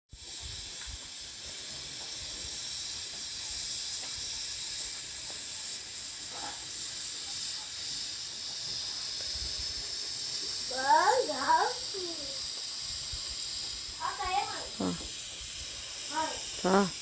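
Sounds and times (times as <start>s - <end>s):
high-pitched hiss: 0.1s - 17.0s.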